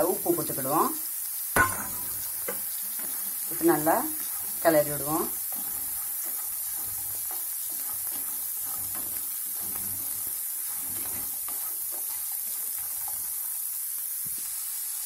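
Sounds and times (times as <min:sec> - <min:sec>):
vegetables sizzling in hot oil: 0:00.0 - 0:15.0
spatula stirring in pan: 0:00.6 - 0:15.0.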